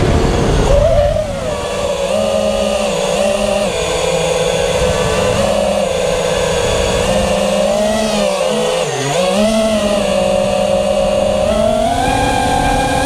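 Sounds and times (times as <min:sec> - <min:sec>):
drone motors whining: 0:00.0 - 0:13.0
rumbling airflow noise: 0:00.0 - 0:13.0.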